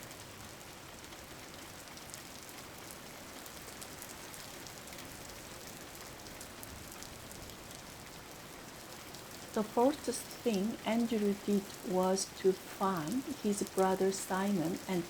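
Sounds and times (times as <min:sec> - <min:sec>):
steady rain hissing: 0:00.0 - 0:15.0
raindrop ticks: 0:01.0 - 0:15.0.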